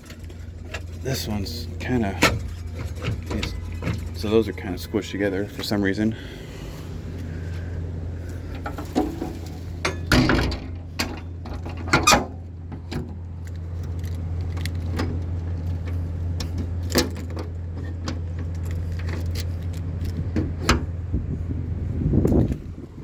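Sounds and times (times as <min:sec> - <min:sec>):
metal doors and latches clinking: 0:00.0 - 0:06.0, 0:08.5 - 0:20.9
low engine hum: 0:00.0 - 0:23.0.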